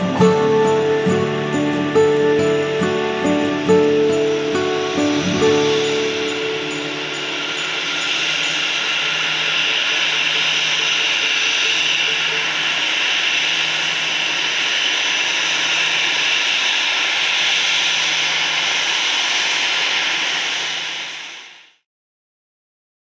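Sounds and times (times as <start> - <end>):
jet engines taxiing: 0.0 - 21.8.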